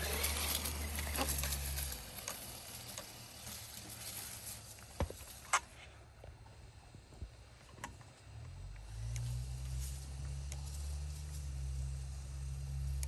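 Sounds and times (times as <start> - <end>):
low motor hum: 0.0 - 13.0
tyres crackling over ground: 0.0 - 13.0.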